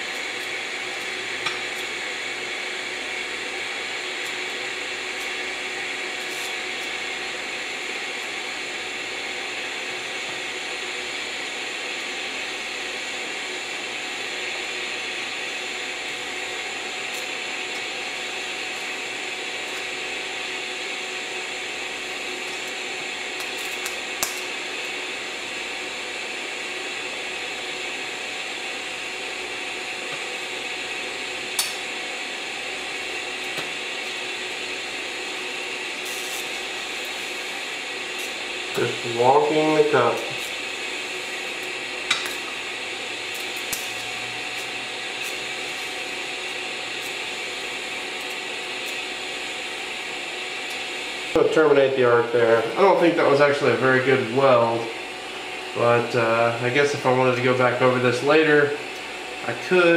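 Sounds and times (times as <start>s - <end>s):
welding arc hissing: 0.0s - 59.9s.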